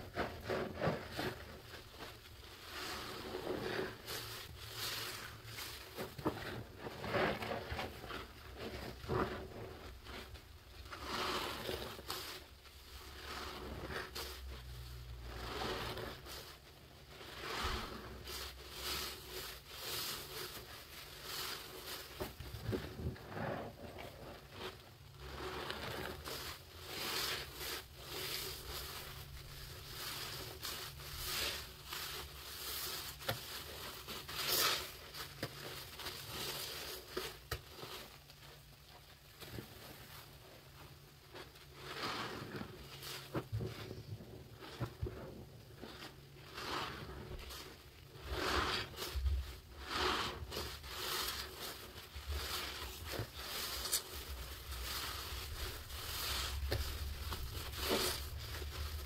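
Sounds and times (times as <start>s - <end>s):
wet sponge squishes: 0.0s - 59.0s.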